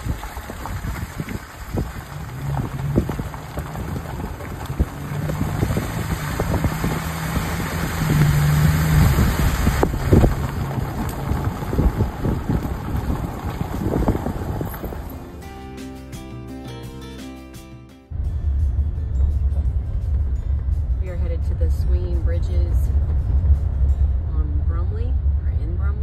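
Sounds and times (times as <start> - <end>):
car engine drone: 0.0 - 16.4, 18.1 - 26.0.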